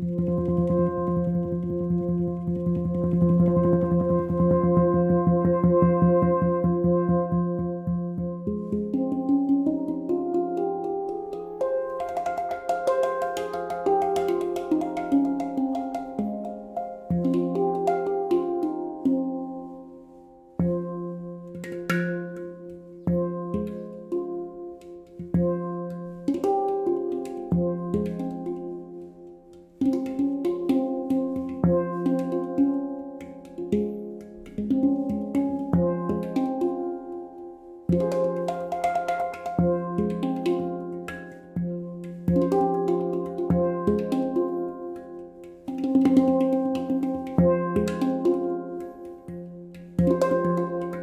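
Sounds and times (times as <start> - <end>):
handpan played by hand: 0.0 - 51.0.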